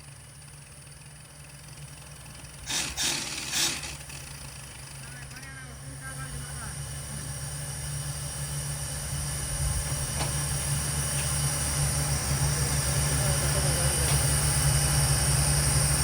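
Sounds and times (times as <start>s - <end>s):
drilling rig running: 0.0s - 16.0s.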